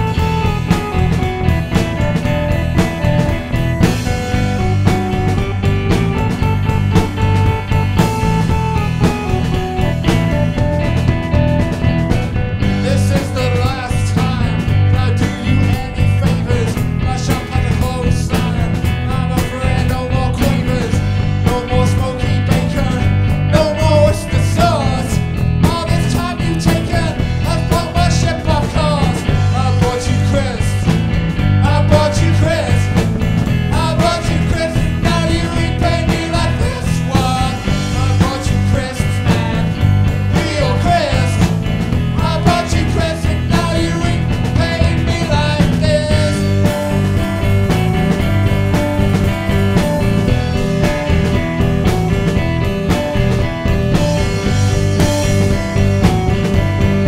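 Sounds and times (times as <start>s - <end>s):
bass guitar: 0.0s - 57.0s
drum kit: 0.0s - 57.0s
electric guitar: 0.0s - 57.0s
keyboard: 0.0s - 57.0s.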